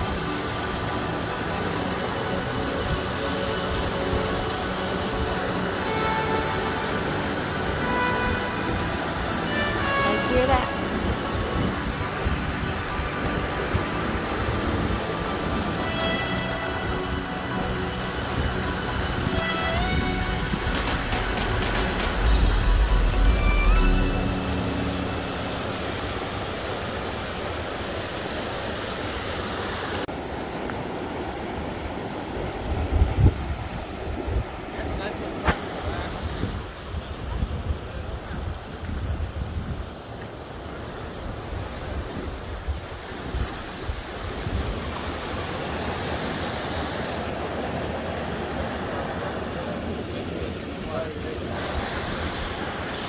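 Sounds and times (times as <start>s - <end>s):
creek rushing over rocks: 0.0s - 53.0s.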